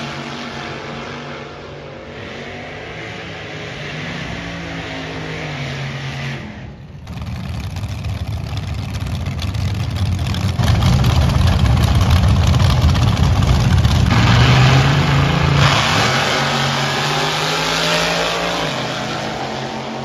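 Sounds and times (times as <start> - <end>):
dragster engines revving: 0.0 - 20.0.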